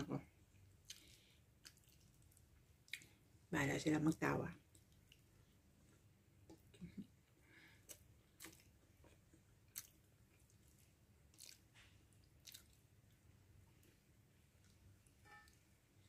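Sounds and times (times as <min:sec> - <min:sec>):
faint chewing: 0:00.5 - 0:03.3, 0:04.6 - 0:15.7.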